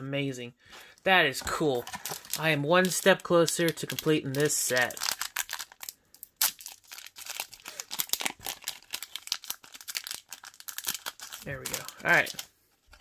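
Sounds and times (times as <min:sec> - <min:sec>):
foil pack crinkling and tearing: 0:01.8 - 0:13.0.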